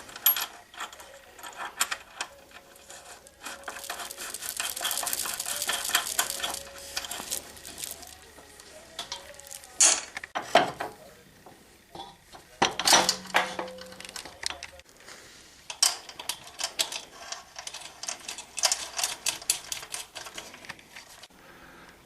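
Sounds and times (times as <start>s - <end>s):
metal parts clanking: 0.0s - 11.0s, 12.0s - 14.8s, 15.7s - 21.2s.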